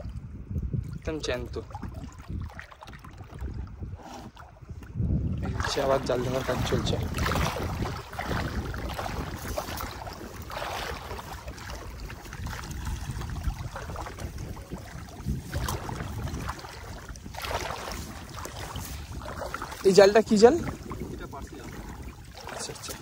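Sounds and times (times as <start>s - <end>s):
sea water splashing and sloshing: 0.0s - 23.0s
wind rumbling on microphone: 0.0s - 23.0s.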